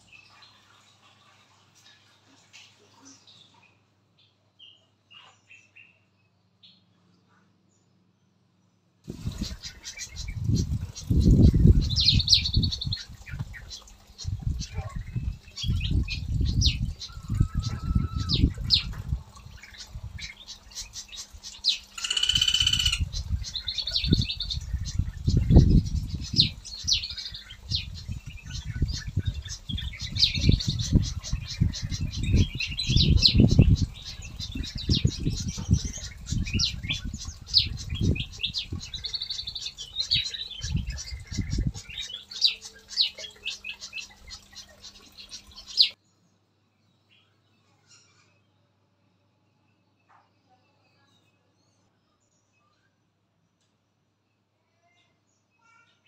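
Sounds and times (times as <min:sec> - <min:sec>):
songbirds chirping and calling: 0:00.0 - 0:56.0.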